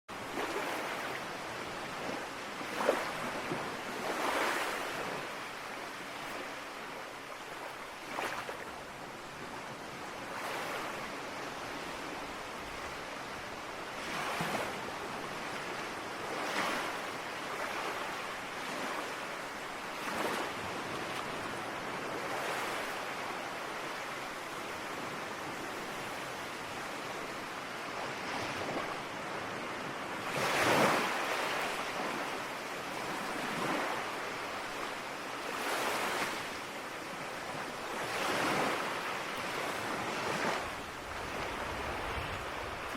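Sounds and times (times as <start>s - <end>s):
ocean waves breaking: 0.1s - 42.9s.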